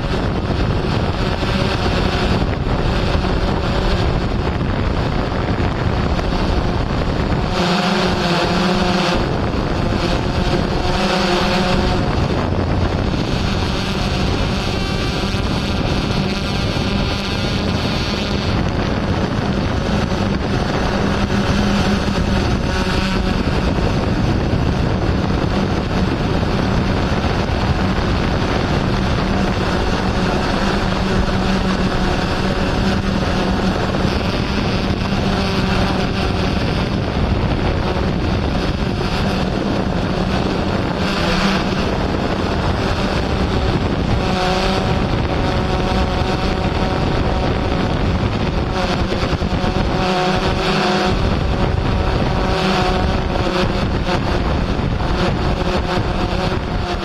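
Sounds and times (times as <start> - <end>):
drone propellers buzzing: 0.0 - 57.0
wind gusts on microphone: 0.0 - 57.0.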